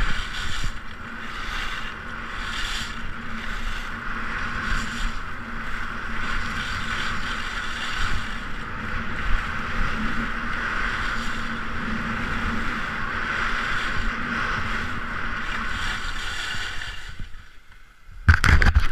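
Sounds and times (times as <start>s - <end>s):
wind on microphone: 0.0s - 17.5s
skis scraping over snow: 0.0s - 17.7s.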